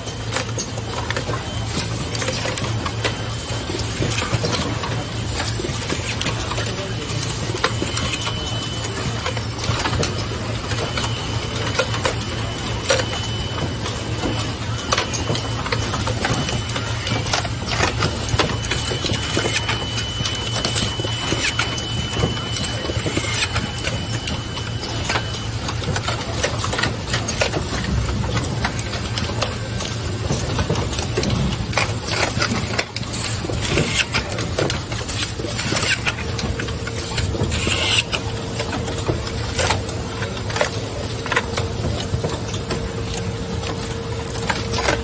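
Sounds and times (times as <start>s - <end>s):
machine clicks and knocks: 0.0s - 45.0s
steady machine hum: 0.0s - 45.0s.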